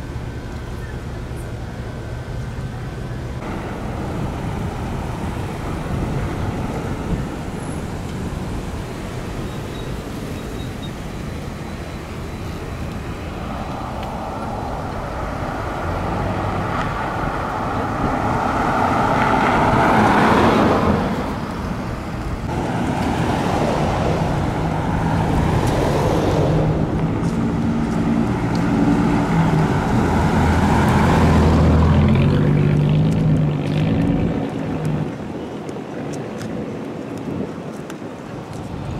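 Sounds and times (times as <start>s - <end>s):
low engine hum: 0.0s - 36.3s
vehicles passing: 0.0s - 38.9s.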